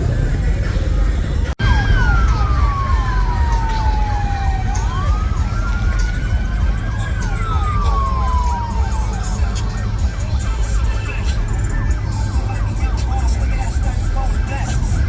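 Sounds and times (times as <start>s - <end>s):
traffic rumble: 0.0s - 15.0s
siren wailing: 1.6s - 15.0s
yelping siren: 1.6s - 15.0s.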